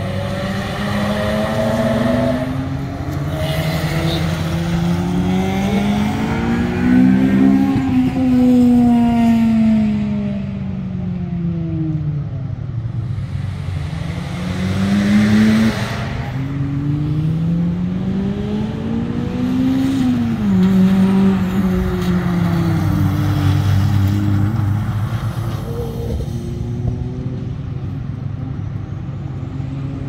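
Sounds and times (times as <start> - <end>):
car engine revving: 0.0 - 9.7, 13.2 - 27.6.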